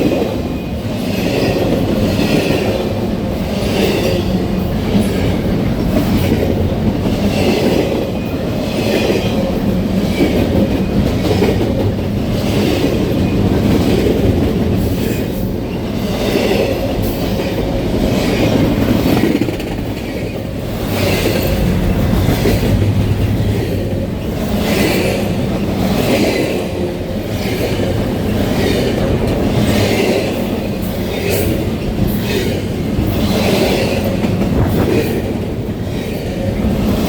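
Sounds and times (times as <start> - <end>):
low rumble of freight train: 0.0 - 37.0
train wheels clacking over rail joints: 0.0 - 37.0.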